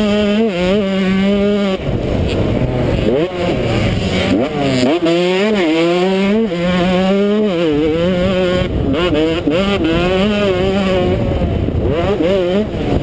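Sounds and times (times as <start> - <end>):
two-stroke engine revving: 0.0 - 13.0
wind rumble on microphone: 0.0 - 13.0.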